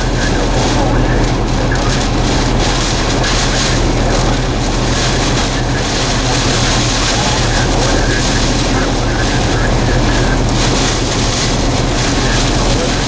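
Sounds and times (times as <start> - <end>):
heavy rain against a vehicle: 0.0 - 13.0
low steady hum: 0.0 - 13.0.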